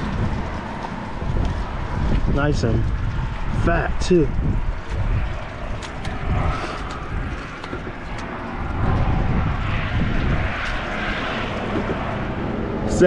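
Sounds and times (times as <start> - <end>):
traffic rumble on bridge: 0.0 - 13.0
vehicle passing: 0.0 - 13.0.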